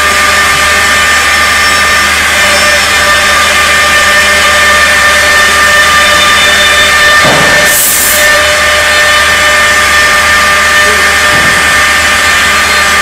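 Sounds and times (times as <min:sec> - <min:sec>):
machine cutting wood: 0:00.0 - 0:13.0
spindle whine: 0:00.0 - 0:13.0.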